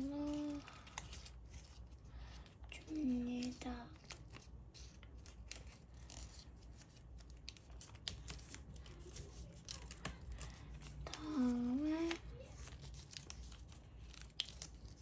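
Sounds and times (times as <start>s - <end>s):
paper crinkling while folded: 0.0s - 15.0s.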